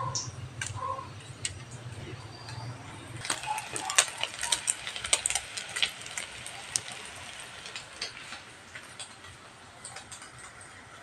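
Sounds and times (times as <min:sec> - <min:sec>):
hot oil crackling and popping: 0:00.1 - 0:11.0.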